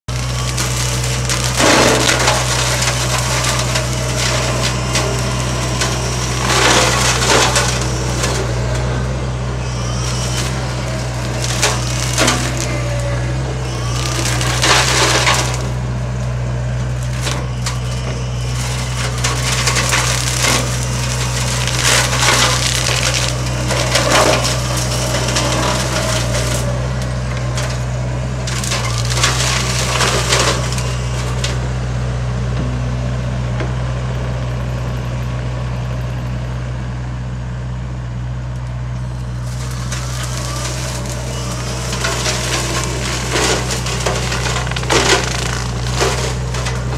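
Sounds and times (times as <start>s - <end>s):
diesel engine humming: 0.0s - 46.9s
branches crackling and splintering: 0.1s - 31.6s, 39.0s - 46.9s.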